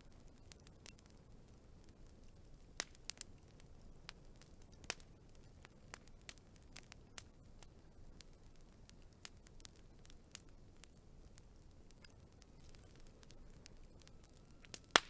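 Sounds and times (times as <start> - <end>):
faint low hiss: 0.0 - 15.0
wood fire popping and snapping: 0.0 - 15.0.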